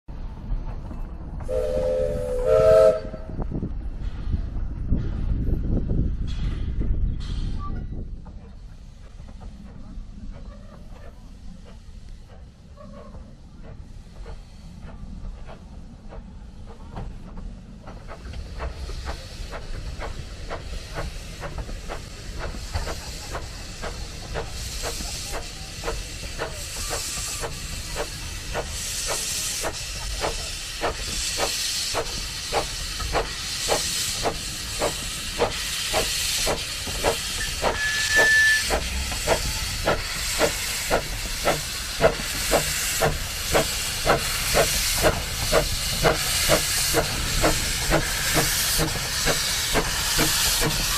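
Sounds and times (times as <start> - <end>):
steam locomotive chuffing: 0.6 - 50.9
steam hiss: 1.5 - 3.3, 8.7 - 50.9.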